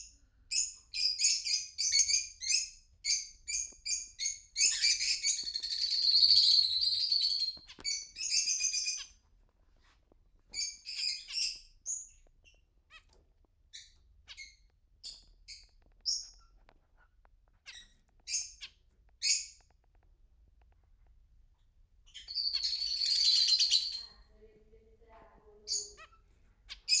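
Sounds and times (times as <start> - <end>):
caged birds chirping: 0.1 - 27.0.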